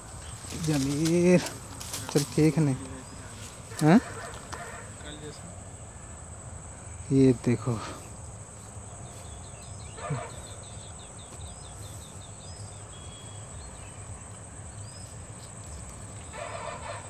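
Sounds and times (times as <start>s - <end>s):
bird chirping: 0.0s - 17.0s
high insect drone: 0.0s - 17.0s.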